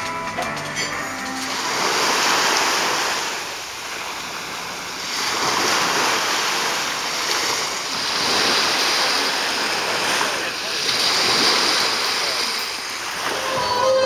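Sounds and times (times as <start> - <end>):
water rushing along boat hull: 0.0 - 14.0.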